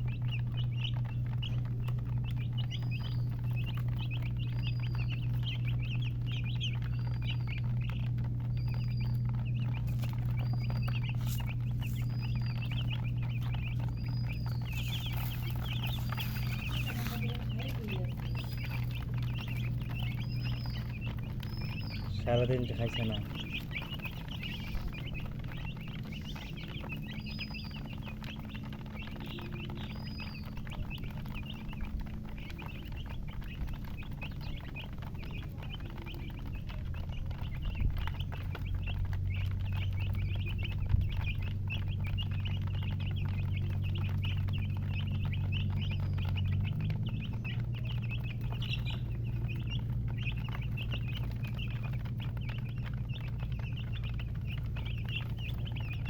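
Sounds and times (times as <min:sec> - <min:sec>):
chicks peeping: 0:00.0 - 0:56.0
low steady hum: 0:00.0 - 0:56.0.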